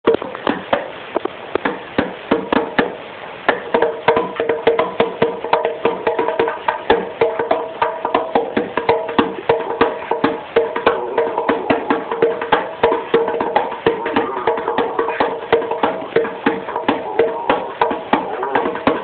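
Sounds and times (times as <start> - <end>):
bongos hand-drummed: 0.0 - 19.0.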